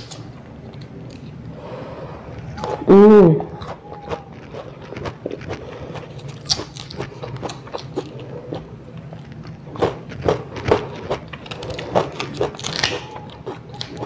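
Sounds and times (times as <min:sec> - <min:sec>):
crunchy fruit being chewed: 0:02.3 - 0:14.0.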